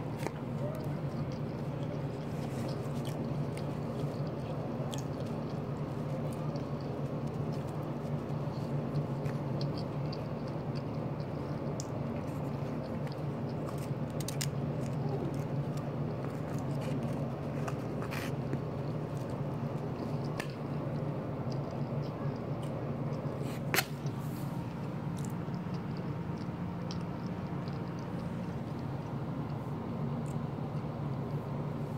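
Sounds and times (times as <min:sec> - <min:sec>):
low room hum: 0:00.0 - 0:31.9.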